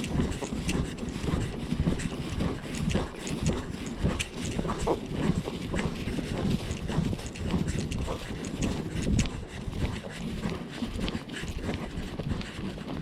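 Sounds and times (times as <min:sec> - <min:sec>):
wind buffeting microphone: 0:00.0 - 0:12.4
hoofbeats on dirt trail: 0:00.0 - 0:13.0.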